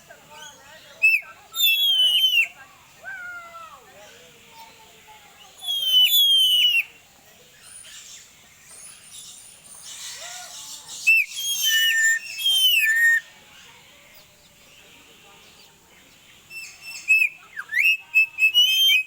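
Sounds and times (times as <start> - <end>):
faint bird calls: 0.0 - 19.0.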